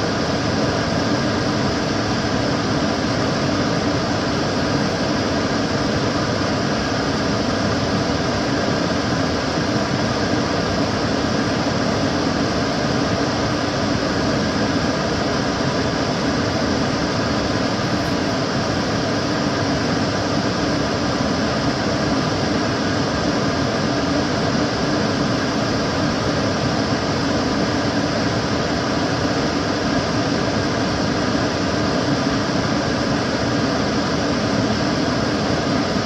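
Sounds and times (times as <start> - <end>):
extractor fan running: 0.0 - 36.0
faint steady hum: 0.0 - 36.0.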